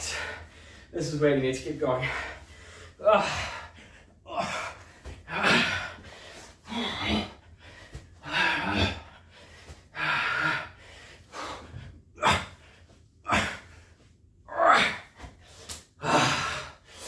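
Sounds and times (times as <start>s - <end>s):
man breathing hard and gasping: 0.0s - 1.0s, 2.0s - 14.0s, 14.8s - 17.0s.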